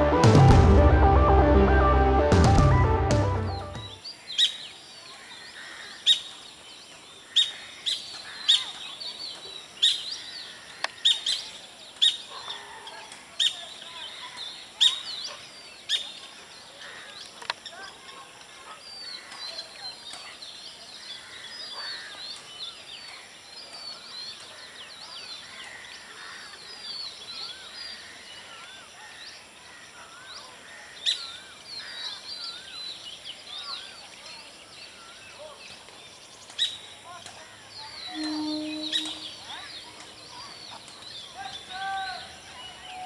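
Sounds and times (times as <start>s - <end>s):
small birds chirping: 3.6s - 43.0s.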